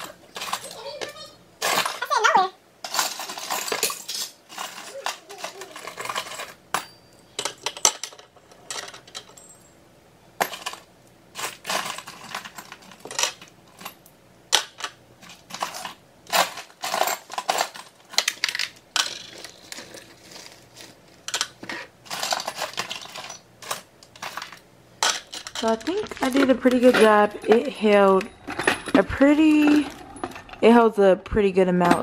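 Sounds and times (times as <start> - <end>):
metal jewelry clinking and jangling: 0.0 - 9.8, 10.4 - 30.7.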